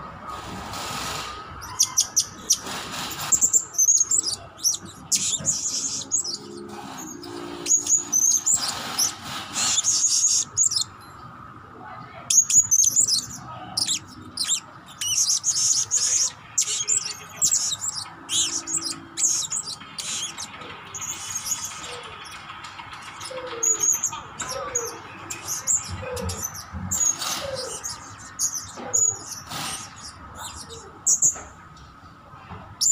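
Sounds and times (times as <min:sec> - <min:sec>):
parrot chirping and twittering: 0:01.0 - 0:11.2, 0:12.3 - 0:31.9.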